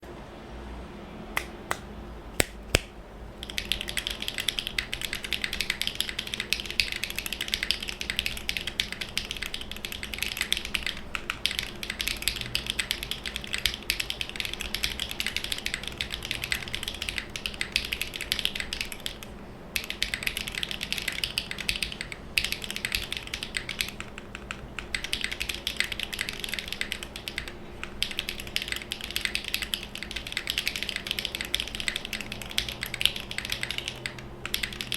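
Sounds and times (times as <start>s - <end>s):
typing on mechanical keyboard: 3.4s - 34.9s.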